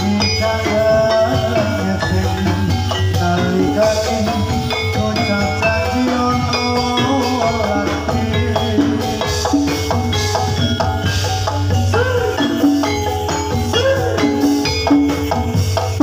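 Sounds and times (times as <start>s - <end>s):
bronze metallophones ringing: 0.0s - 16.0s
drum strokes: 0.0s - 16.0s.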